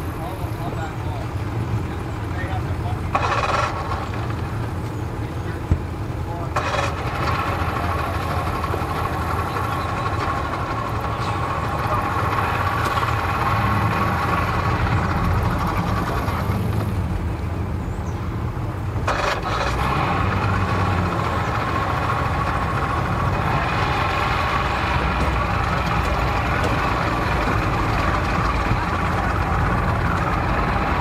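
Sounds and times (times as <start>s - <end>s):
outboard motor idling: 0.0s - 31.0s.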